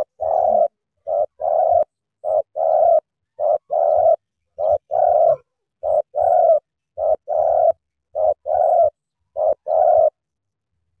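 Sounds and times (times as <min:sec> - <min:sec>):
dove cooing: 0:00.0 - 0:10.2.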